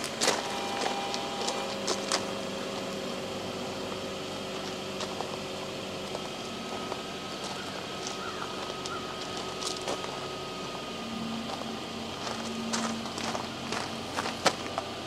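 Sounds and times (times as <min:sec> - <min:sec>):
faint steady tones: 0:00.0 - 0:15.0
outdoor background hum: 0:00.0 - 0:15.0.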